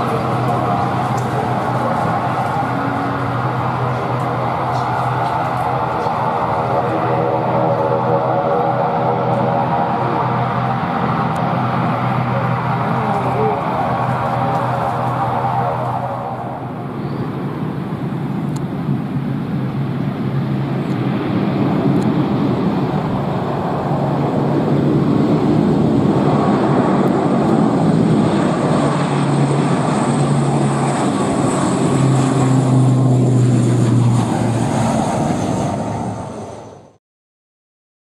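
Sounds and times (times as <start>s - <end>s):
turboprop engines drone: 0.0s - 37.0s.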